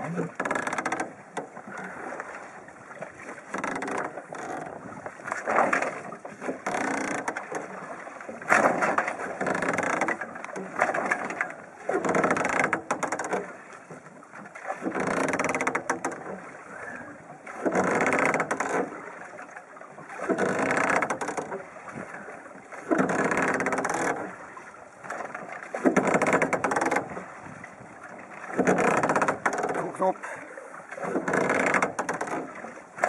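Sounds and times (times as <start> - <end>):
oar sweeping through water: 0.0 - 33.0.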